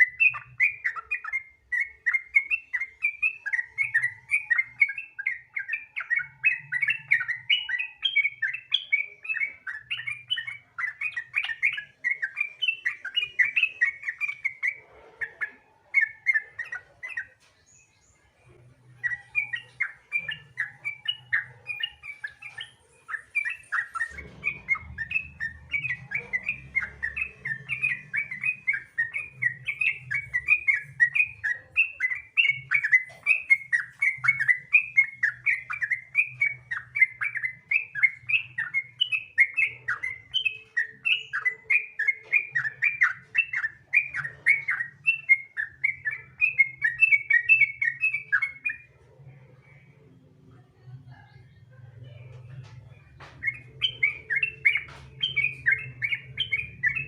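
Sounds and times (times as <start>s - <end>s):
bulbul singing rolling chatter: 0.0s - 57.0s.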